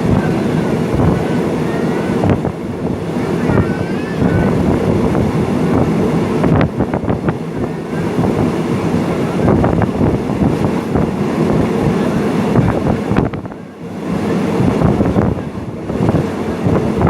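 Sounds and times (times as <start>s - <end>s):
train rumbling on rails: 0.0s - 17.0s
wind buffeting microphone: 0.0s - 17.0s.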